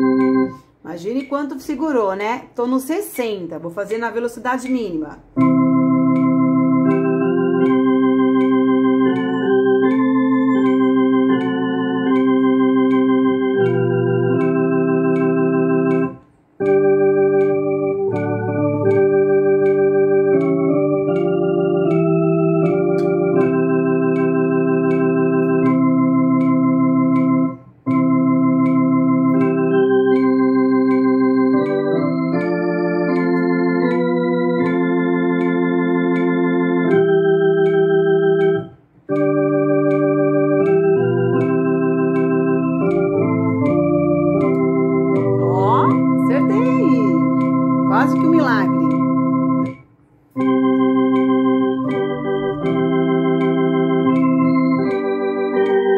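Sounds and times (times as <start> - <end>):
organ playing hymn chords: 0.0 - 0.8, 5.2 - 55.9.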